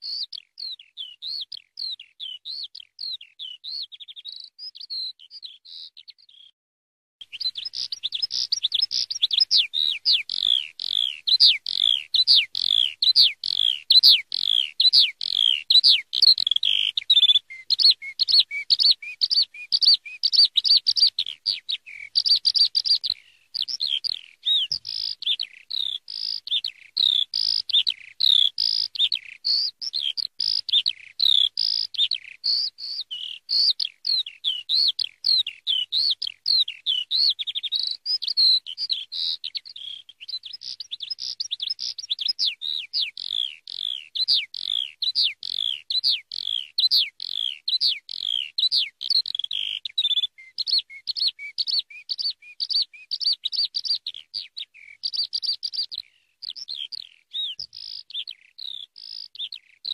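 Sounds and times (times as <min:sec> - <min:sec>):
skylark singing: 0:00.0 - 0:06.5, 0:07.2 - 0:59.9.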